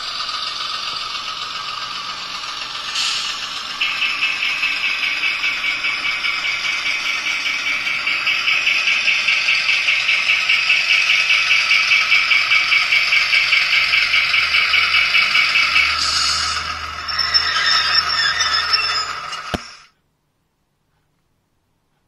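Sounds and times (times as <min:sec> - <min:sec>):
model locomotive chugging sound: 0:00.0 - 0:19.9.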